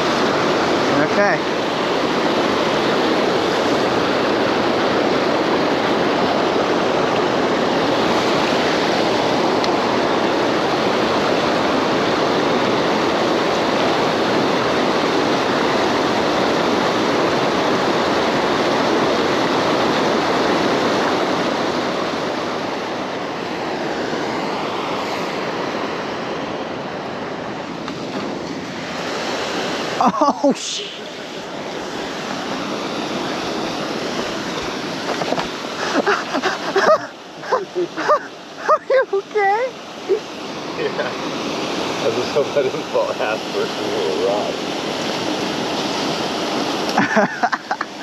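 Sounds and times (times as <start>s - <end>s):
flowing water rushing: 0.0s - 48.0s.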